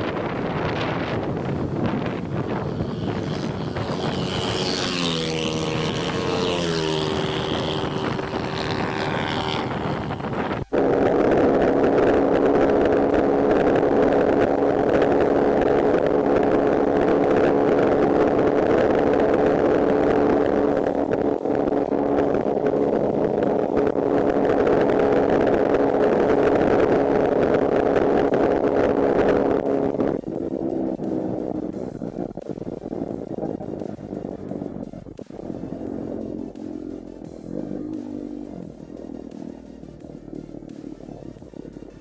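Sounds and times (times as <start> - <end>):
motorcycle engine at full throttle: 0.0 - 42.0
steady engine drone: 0.0 - 42.0
wind noise: 0.0 - 42.0.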